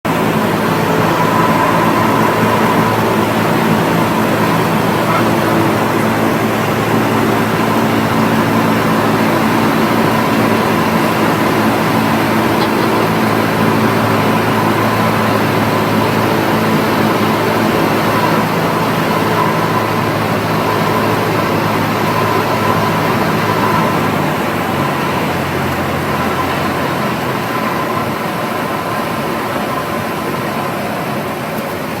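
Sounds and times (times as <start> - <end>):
airplane engine and propeller drone: 0.0 - 32.0.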